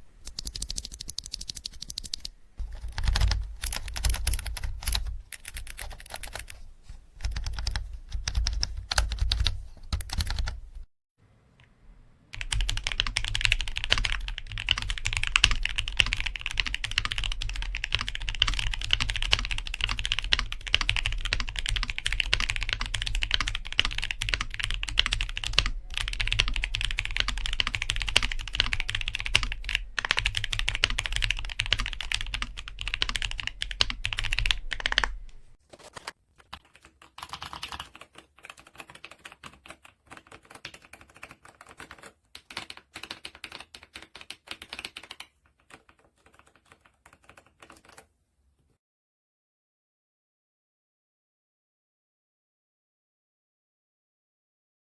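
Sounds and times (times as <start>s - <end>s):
fast typing on keyboard: 0.2s - 6.6s, 7.2s - 10.6s, 12.4s - 35.2s, 36.4s - 48.1s.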